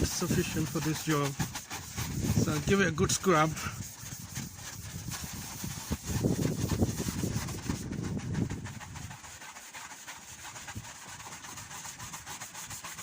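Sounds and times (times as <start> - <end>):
brush scrubbing headlight lens: 0.0 - 13.0.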